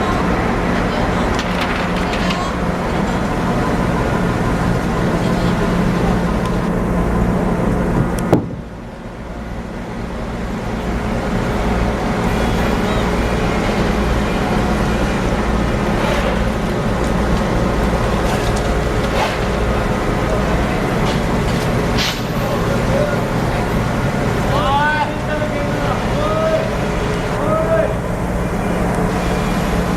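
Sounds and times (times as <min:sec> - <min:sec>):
heavy machinery drone: 0:00.0 - 0:29.9.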